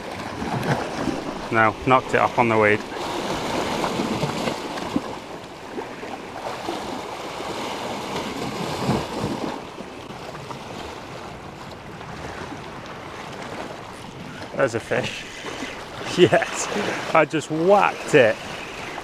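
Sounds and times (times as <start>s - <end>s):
sea waves splashing on rocks: 0.0s - 19.0s.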